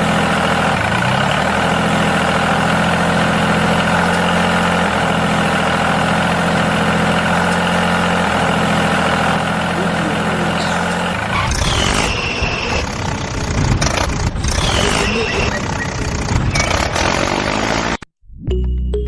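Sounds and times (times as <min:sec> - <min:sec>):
tractor engine rattling: 0:00.0 - 0:18.0.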